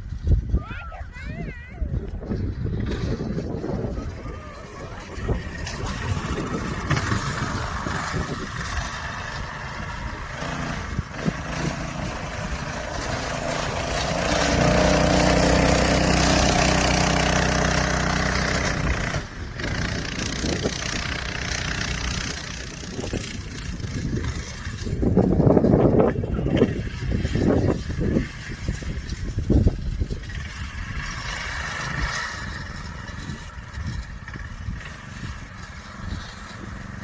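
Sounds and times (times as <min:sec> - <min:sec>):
go-kart engine running: 0:00.0 - 0:37.0.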